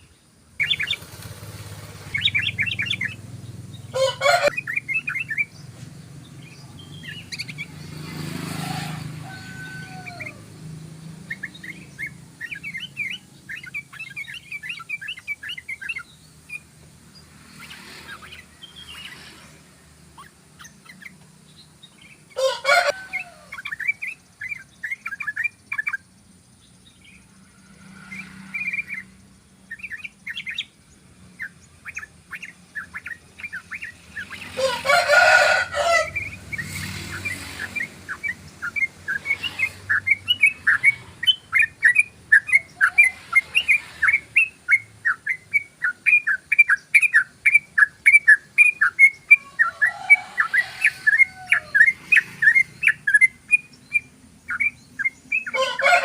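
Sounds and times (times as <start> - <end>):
bird singing chattering notes: 0.0 - 8.5, 9.2 - 27.4, 28.1 - 34.6, 35.7 - 55.6
harsh bird calls: 0.0 - 56.0.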